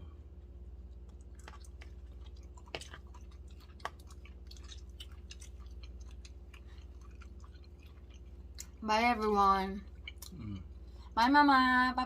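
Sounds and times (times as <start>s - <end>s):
chewing and mouth sounds: 0.4s - 11.2s.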